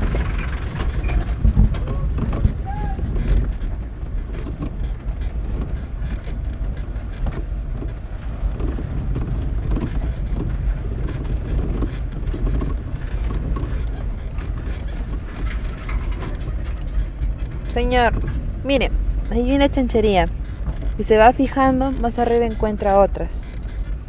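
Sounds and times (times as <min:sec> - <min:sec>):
engine and road rumble in car: 0:00.0 - 0:24.0
faint small rattles: 0:00.0 - 0:24.0.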